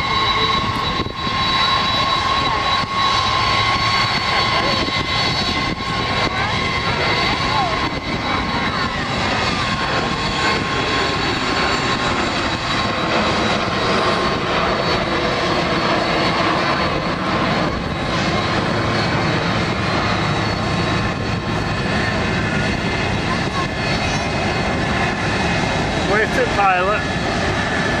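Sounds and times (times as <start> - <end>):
jet engines roaring with high whine: 0.0 - 28.0.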